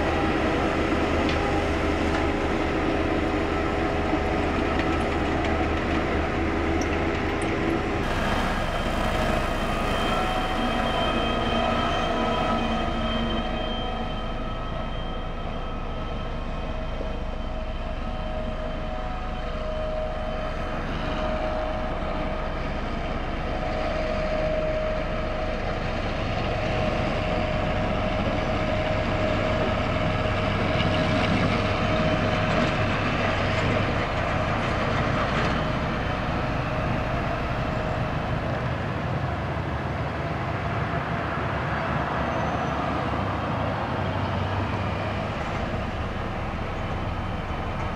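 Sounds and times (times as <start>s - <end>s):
steady whine: 0.0s - 40.1s
diesel road roller engine running: 0.0s - 47.9s.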